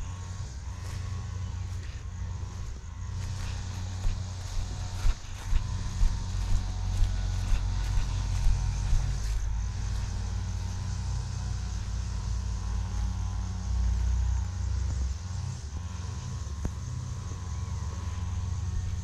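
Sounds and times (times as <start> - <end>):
footsteps on grass: 0.0 - 14.2, 15.8 - 19.0
faint steady hum: 0.0 - 19.0
steady low rumble: 0.0 - 19.0.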